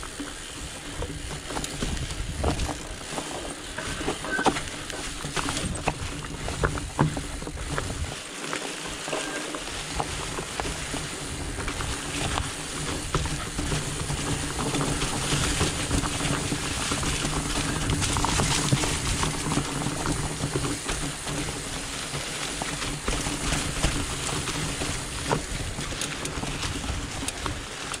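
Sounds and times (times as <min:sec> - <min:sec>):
bike clicking and rattling: 0:00.0 - 0:28.0
fat tyres rumbling on dirt: 0:00.0 - 0:28.0.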